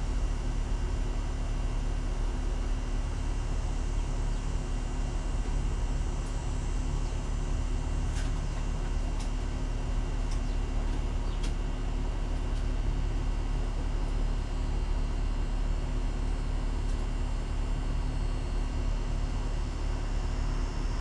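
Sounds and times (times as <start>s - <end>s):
machinery rumble and hum: 0.0s - 21.0s.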